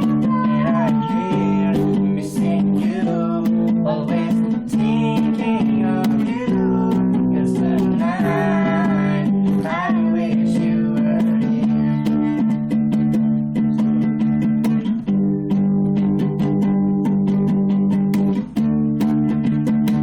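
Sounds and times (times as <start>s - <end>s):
acoustic guitar song: 0.0s - 20.0s.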